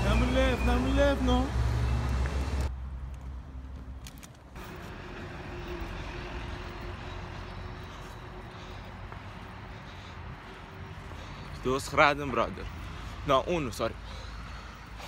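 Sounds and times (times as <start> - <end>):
distant engine rumble: 0.0 - 15.0.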